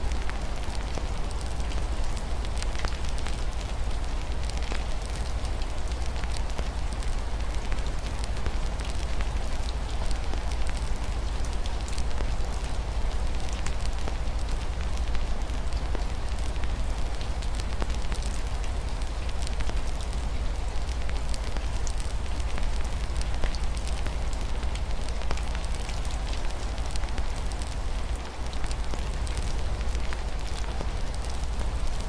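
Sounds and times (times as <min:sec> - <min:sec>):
rain falling on a window: 0:00.0 - 0:32.0
wood fire crackling: 0:00.0 - 0:32.0.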